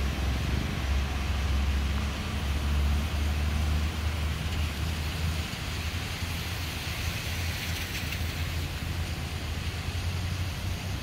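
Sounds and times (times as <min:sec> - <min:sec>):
traffic engines rumbling: 0:00.0 - 0:11.0
tyres hissing on wet pavement: 0:00.0 - 0:11.0.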